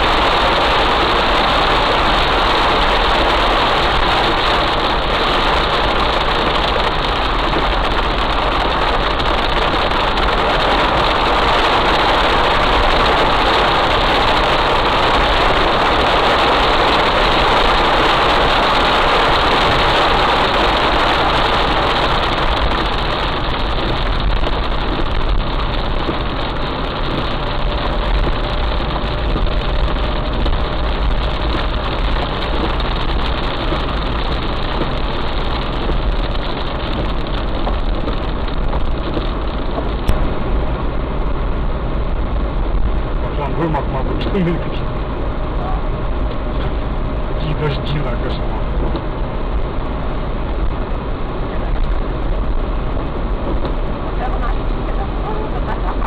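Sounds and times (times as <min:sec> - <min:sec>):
heavy rain falling: 0:00.0 - 0:56.0
vehicle engine running: 0:00.0 - 0:56.0.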